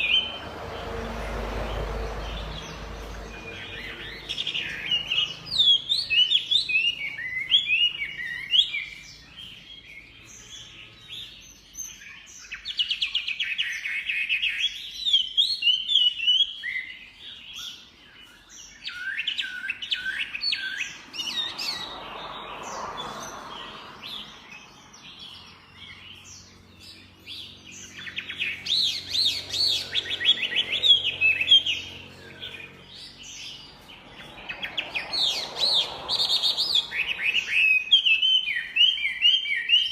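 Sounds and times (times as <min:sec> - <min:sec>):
bird singing whistled notes: 0:02.4 - 0:21.9, 0:23.6 - 0:39.9.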